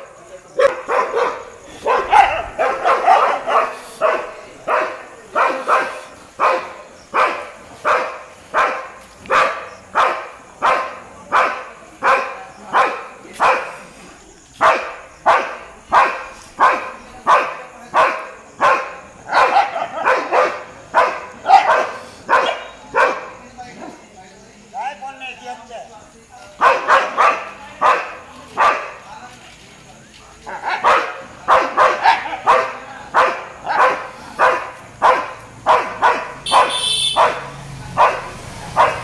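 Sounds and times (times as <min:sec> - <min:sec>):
dog barking: 0:00.6 - 0:13.9, 0:14.6 - 0:23.4, 0:26.6 - 0:29.1, 0:30.5 - 0:39.0.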